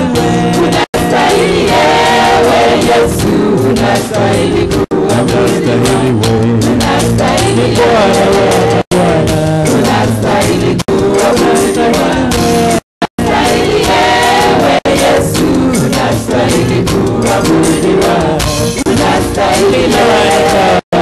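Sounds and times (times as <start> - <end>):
worship team singing: 0.0 - 21.0.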